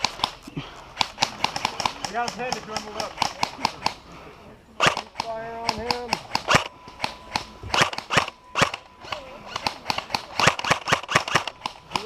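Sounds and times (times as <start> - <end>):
airsoft guns firing: 0.0 - 4.0, 4.8 - 12.0.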